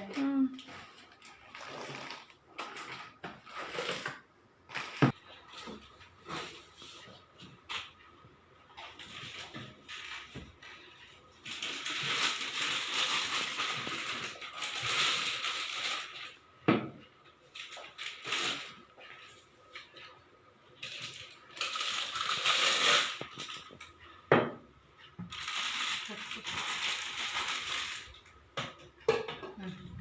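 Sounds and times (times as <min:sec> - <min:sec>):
packaging rustling and crinkling: 0:00.2 - 0:07.9, 0:08.8 - 0:16.4, 0:17.5 - 0:20.1, 0:20.8 - 0:23.9, 0:25.3 - 0:28.3.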